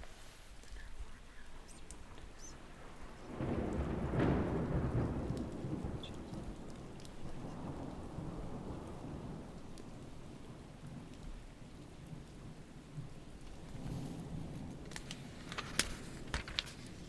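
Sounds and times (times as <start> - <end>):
steady rain: 0.0 - 17.0
thunder rumbling: 1.0 - 17.0.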